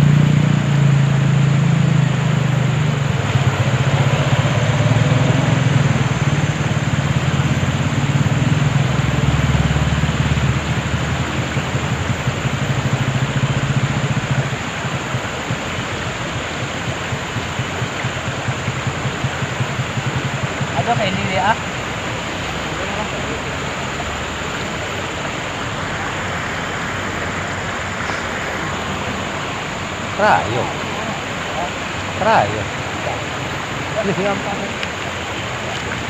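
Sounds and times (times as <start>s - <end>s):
constant rushing noise: 0.0s - 36.0s
engine humming: 0.0s - 36.0s.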